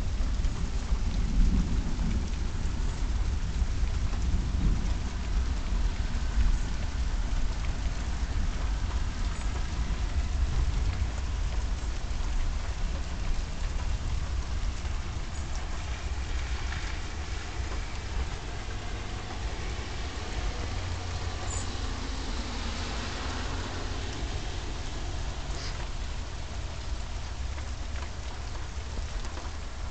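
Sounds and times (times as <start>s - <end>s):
rain falling: 0.0s - 29.9s.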